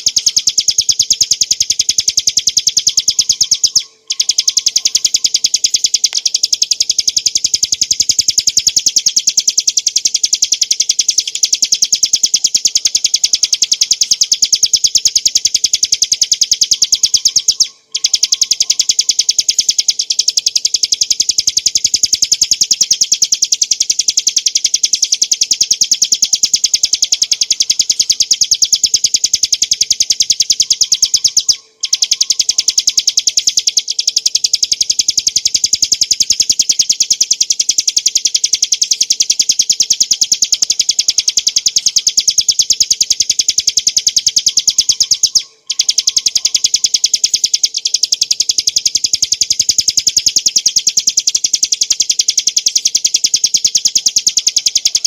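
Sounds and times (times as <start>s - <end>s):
bird singing fast high trill: 0.0s - 55.0s.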